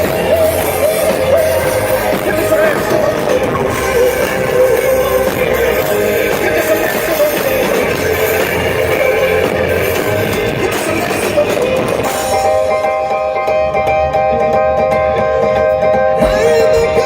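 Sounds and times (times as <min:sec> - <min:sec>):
electric guitar: 0:00.0 - 0:17.0
live rock band playing: 0:00.0 - 0:17.0.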